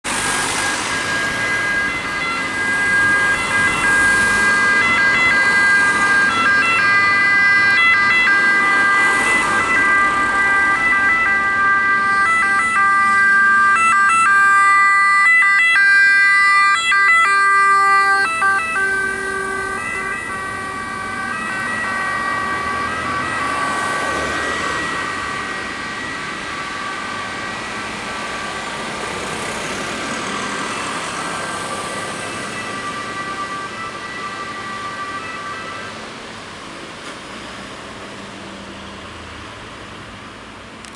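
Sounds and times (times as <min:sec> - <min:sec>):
ambulance siren two-tone: 0:00.2 - 0:28.6, 0:30.3 - 0:36.1.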